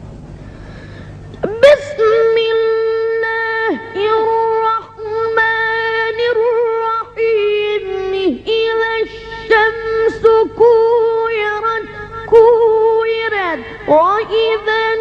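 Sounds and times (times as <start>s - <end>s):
child chanting recitation: 1.4s - 15.0s.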